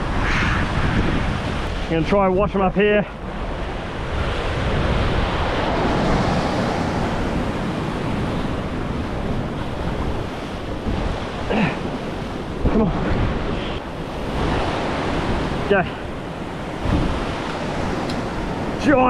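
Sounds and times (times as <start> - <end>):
sea waves surging at shore: 0.0 - 19.0
wind buffeting microphone: 0.0 - 19.0.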